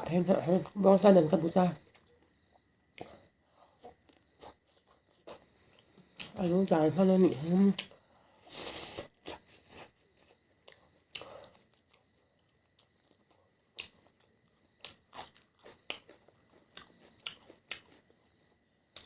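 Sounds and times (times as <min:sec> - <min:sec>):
person chewing with crunches: 0:01.6 - 0:06.8, 0:07.4 - 0:19.0.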